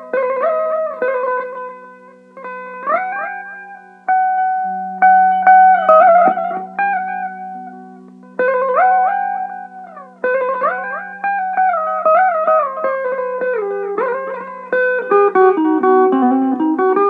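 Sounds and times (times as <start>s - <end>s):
electric mandolin melody: 0.0s - 17.0s.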